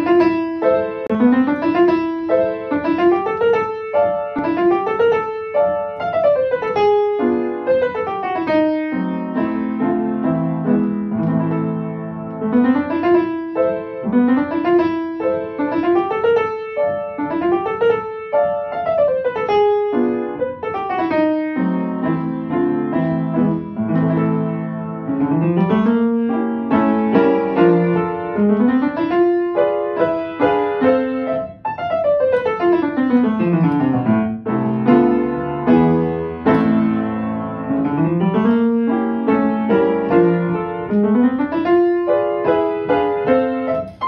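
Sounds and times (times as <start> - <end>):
piano arpeggios and chords: 0.0 - 44.0.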